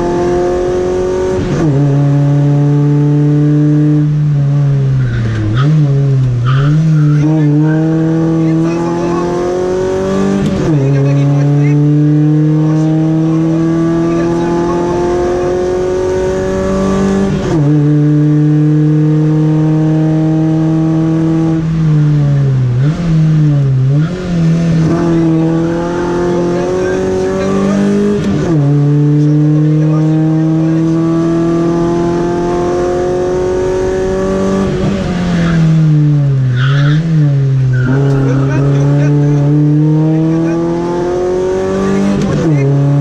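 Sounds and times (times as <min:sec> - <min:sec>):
rally car engine accelerating: 0:00.0 - 0:43.0.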